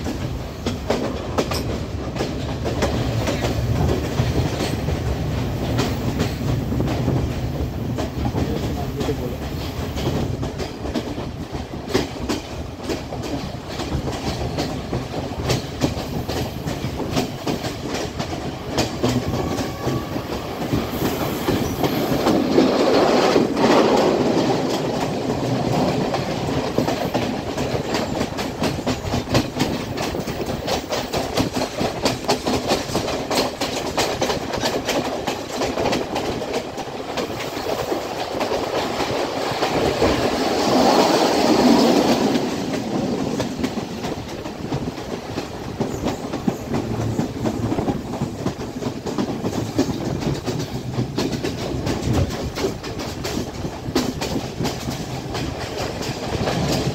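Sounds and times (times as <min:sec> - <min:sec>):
train wheels clattering over rail joints: 0:00.0 - 0:56.9.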